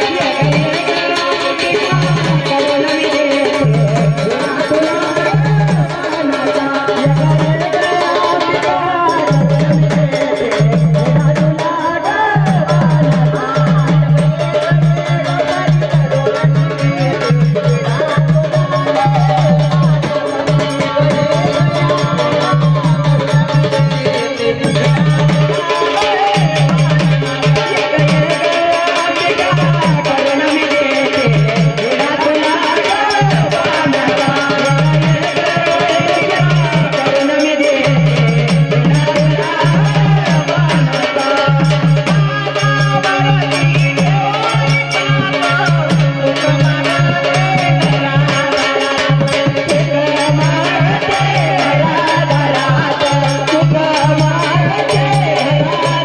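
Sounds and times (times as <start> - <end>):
drums driving beat: 0.0 - 56.0
jingling rattle percussion: 0.0 - 56.0
person singing: 0.0 - 56.0.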